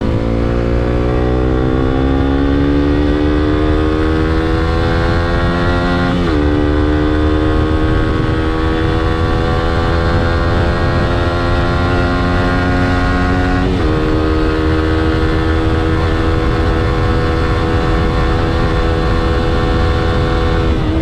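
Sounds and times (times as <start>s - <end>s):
low wind rumble: 0.0s - 21.0s
motorcycle engine revving: 0.0s - 21.0s.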